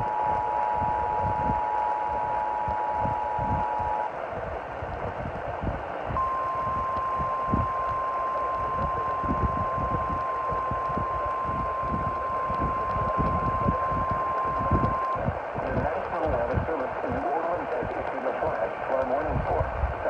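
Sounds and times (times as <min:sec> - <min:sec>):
hissy crackly radio reception: 0:00.0 - 0:20.0.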